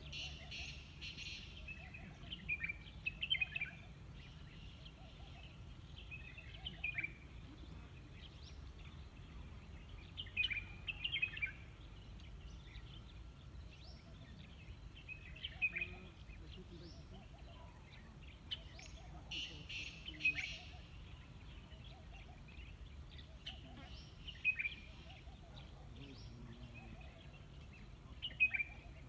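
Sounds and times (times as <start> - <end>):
bird chirping phrases: 0.0 - 29.0.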